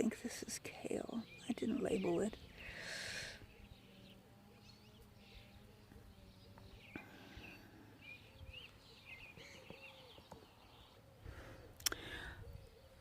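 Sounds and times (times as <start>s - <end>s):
faint birdsong chirps and trills: 0.0s - 13.0s.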